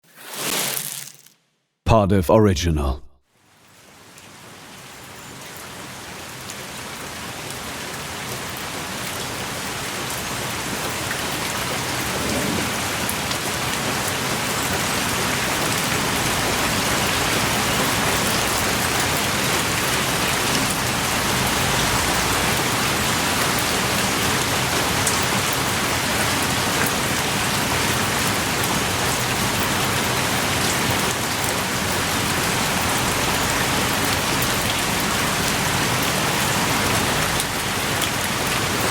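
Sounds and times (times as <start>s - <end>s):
heavy rain falling: 4.4s - 38.9s.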